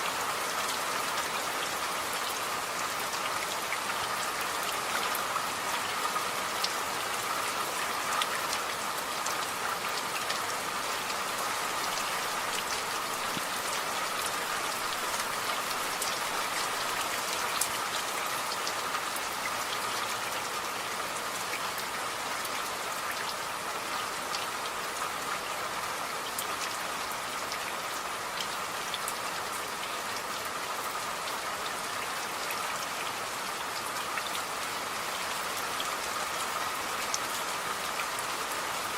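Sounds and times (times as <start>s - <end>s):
steady rain hiss: 0.0s - 38.9s
raindrops ticking on a surface: 0.1s - 38.9s.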